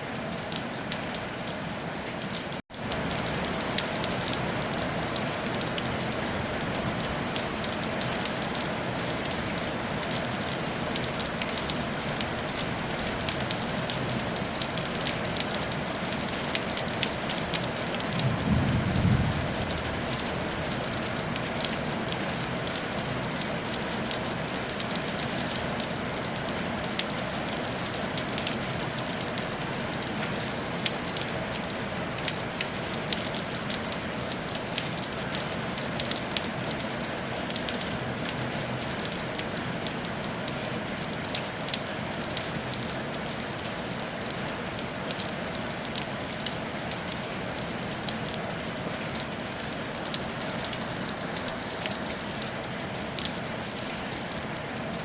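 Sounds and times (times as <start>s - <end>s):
rain pattering on a tiled roof: 0.0s - 55.0s.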